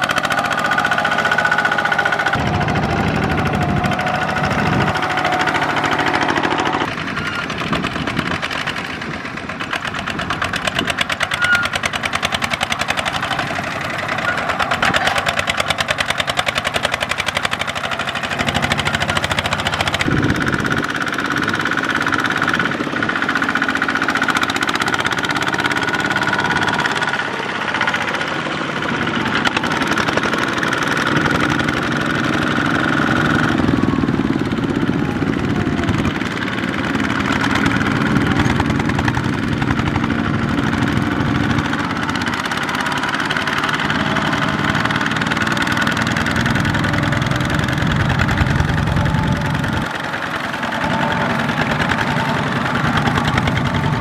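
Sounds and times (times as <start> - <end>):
diesel tractor engine chugging: 0.0 - 54.0.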